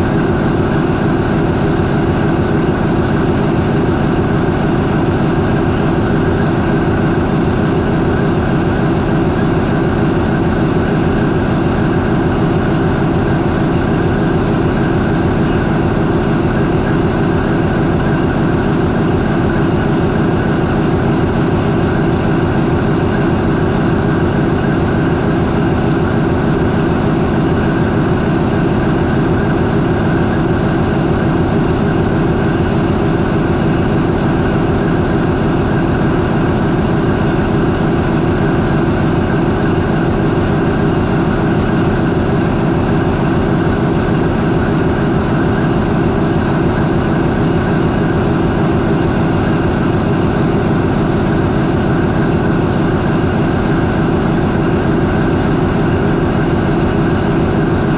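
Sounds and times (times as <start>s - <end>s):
marine diesel engine idling: 0.0s - 57.9s.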